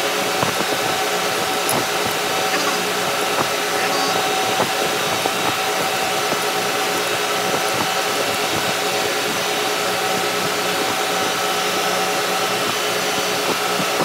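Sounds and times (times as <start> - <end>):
machinery droning: 0.0 - 14.0.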